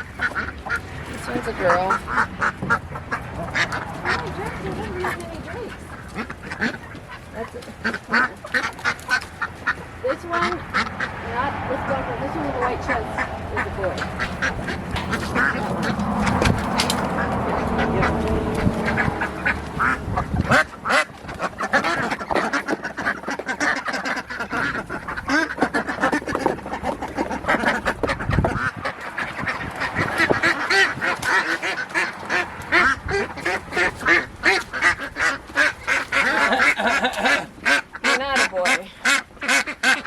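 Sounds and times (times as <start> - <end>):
ducks quacking: 0.0 - 40.0.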